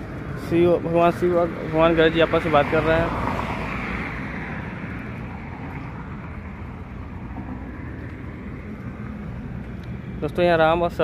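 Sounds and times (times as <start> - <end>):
road traffic hum: 0.0 - 11.0
vehicle passing: 0.0 - 11.0.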